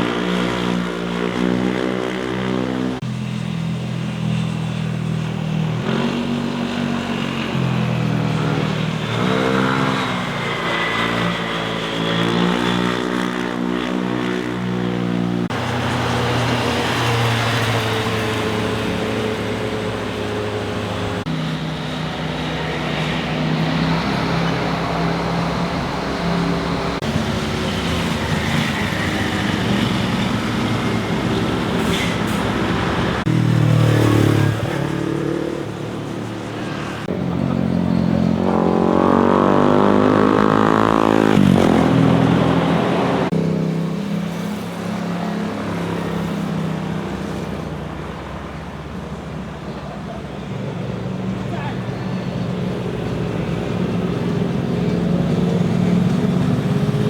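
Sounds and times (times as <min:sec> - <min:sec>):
motorcycles passing and revving: 0:00.0 - 0:57.0.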